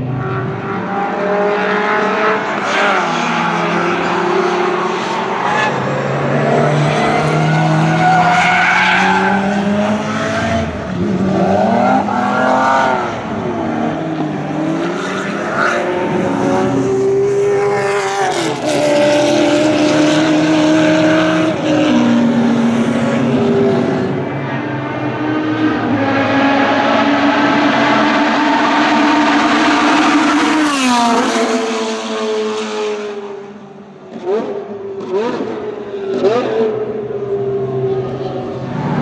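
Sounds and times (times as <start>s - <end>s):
racing car engines: 0.0s - 39.0s.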